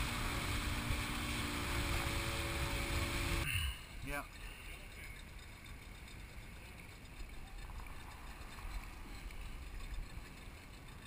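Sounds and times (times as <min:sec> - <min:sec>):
wind and water rumble and hiss: 0:00.0 - 0:11.0.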